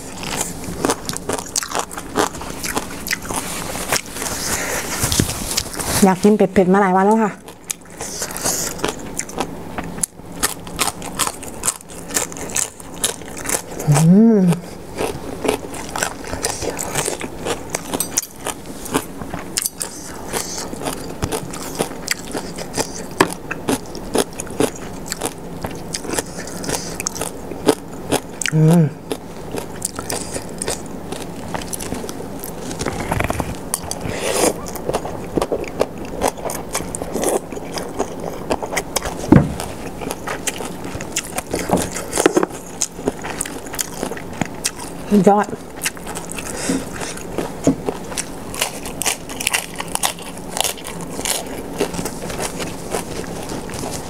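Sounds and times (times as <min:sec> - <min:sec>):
crunching and chewing: 0:00.0 - 0:06.1, 0:07.1 - 0:54.0.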